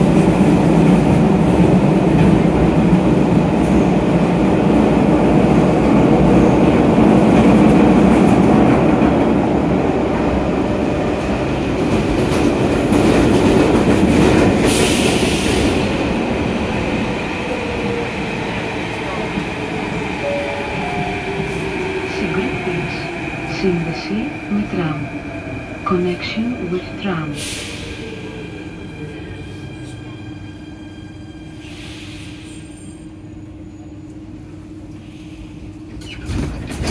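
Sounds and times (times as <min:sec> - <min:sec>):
train rumbling in tunnel: 0:00.0 - 0:36.9.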